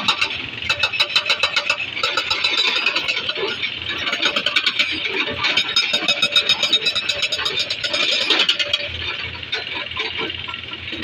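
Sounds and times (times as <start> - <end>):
excavator engine running: 0.0 - 11.0
hydraulic breaker hammering rock: 0.0 - 11.0.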